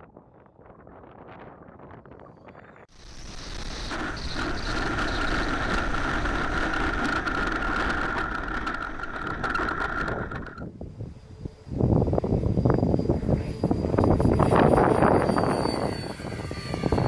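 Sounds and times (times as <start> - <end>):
ducted fans whining: 3.0 - 17.0.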